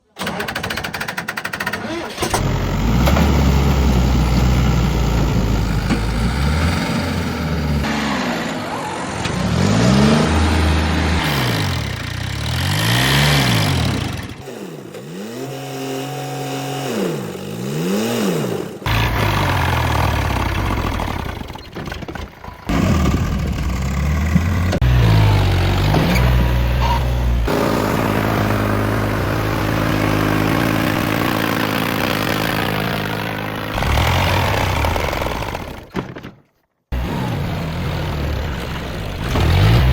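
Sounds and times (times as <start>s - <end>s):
tractor diesel engines revving: 0.2s - 36.0s, 36.9s - 39.9s.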